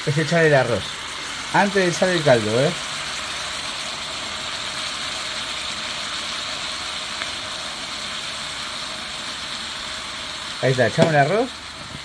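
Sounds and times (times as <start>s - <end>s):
fish stew sizzling in pan: 0.0s - 12.0s
rice being poured: 0.0s - 12.0s.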